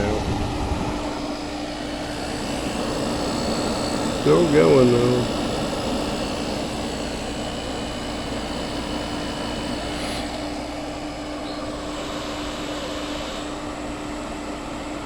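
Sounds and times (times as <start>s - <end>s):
air conditioner fan rushing: 0.0s - 15.0s
air conditioner hum: 0.0s - 15.0s.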